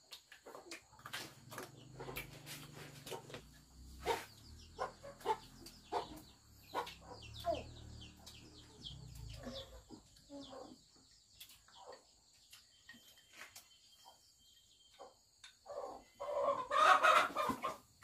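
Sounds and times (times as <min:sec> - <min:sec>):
chickens clucking: 0:00.1 - 0:18.0
chicks peeping: 0:00.4 - 0:18.0.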